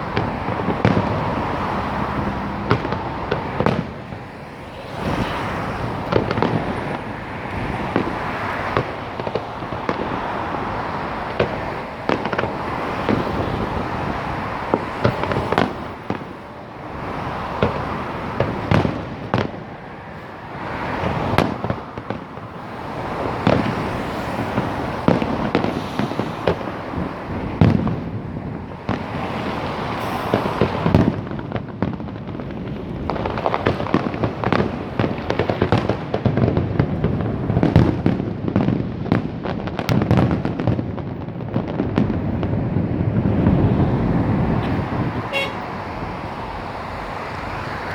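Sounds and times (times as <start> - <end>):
fireworks bangs: 0.0 - 47.9
fireworks crackling: 0.0 - 47.9.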